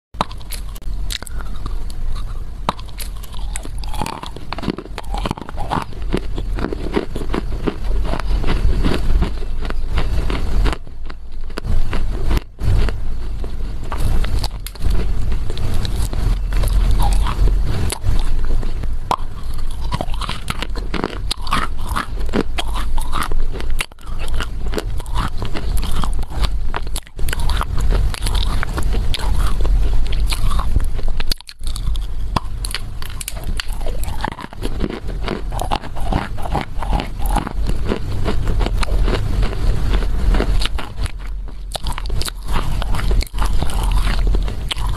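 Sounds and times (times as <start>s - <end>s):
gritty crunching of chewed clay: 0.2s - 44.9s.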